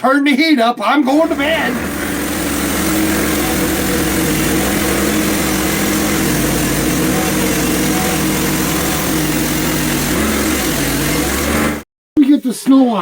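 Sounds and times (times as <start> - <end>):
band sawmill engine running: 1.1 - 11.8
band blade cutting through log: 1.4 - 11.8.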